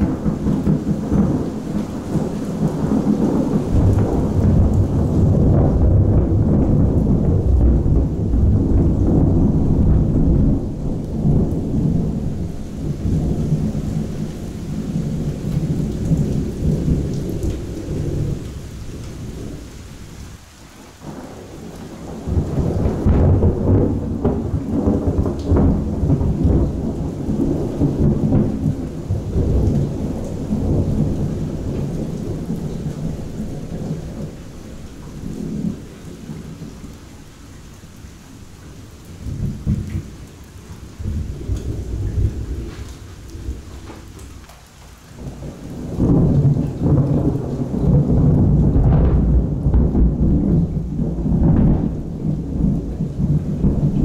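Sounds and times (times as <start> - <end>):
thunder rolling: 0.0 - 19.7, 21.0 - 36.8, 39.0 - 54.0
steady rain: 0.0 - 54.0.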